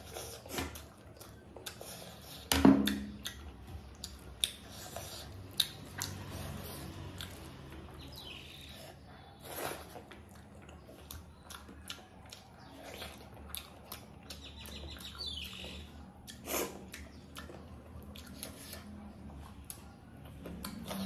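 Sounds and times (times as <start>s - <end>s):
wet chewing and mixing: 0.0s - 21.0s.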